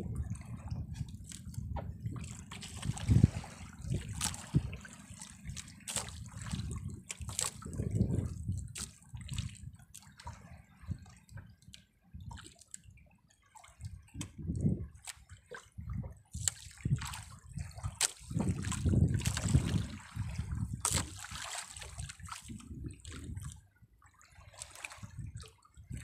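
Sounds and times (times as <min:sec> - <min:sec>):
small splashes and drips: 0:00.0 - 0:26.0
water lapping against boat: 0:00.0 - 0:26.0.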